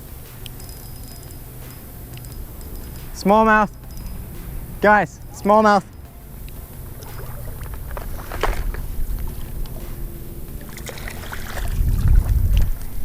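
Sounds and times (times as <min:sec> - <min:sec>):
low rumble: 0:00.0 - 0:13.0
small splashes: 0:00.0 - 0:13.0
water sloshing around wading legs: 0:00.0 - 0:13.0.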